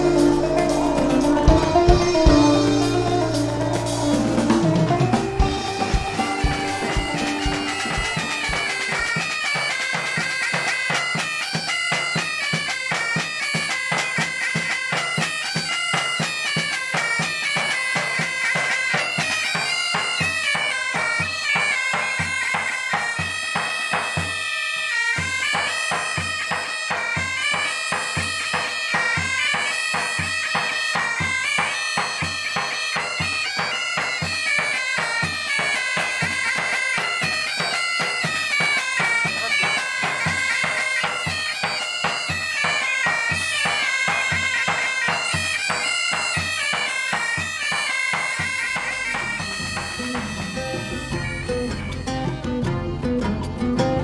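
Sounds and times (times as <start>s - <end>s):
side drum and bass drum beat: 0.0s - 24.4s, 25.2s - 54.0s
bagpipes playing melody: 0.0s - 53.6s.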